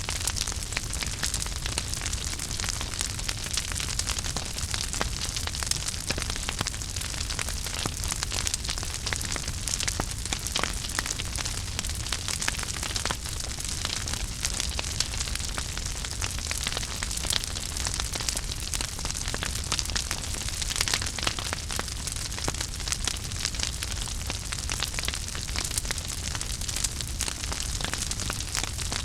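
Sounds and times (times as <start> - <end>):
fire crackling and popping: 0.0 - 29.0
fire flames rumbling and hissing: 0.0 - 29.0.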